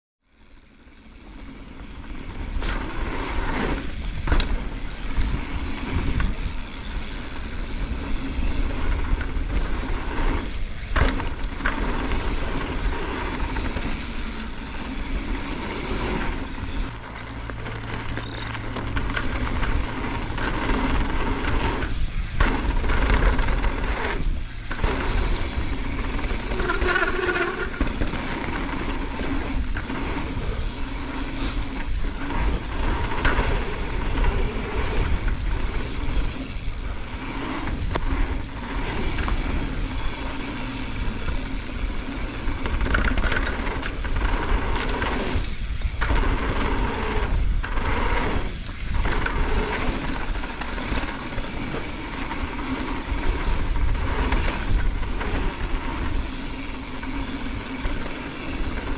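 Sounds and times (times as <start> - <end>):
bike tyres on dirt: 0.2 - 58.9
bike rattling over bumps: 0.4 - 58.9
wind rumble on microphone: 2.1 - 17.0, 17.7 - 58.9.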